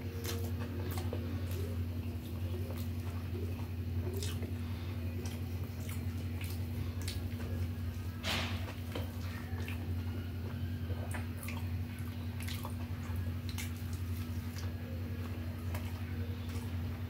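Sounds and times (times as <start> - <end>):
fingers squishing food: 0.0 - 17.0
steady low hum: 0.0 - 17.0
wet smacking chewing: 0.0 - 17.0.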